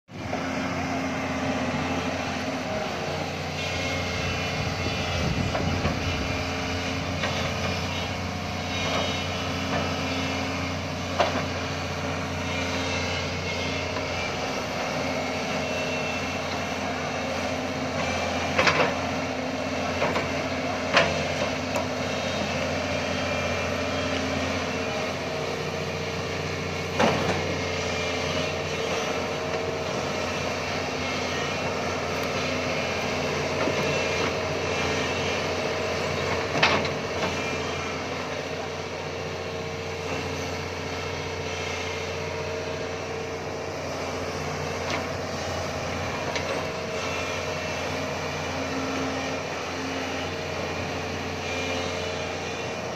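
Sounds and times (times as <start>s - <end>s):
excavator diesel engine running: 0.1s - 52.9s.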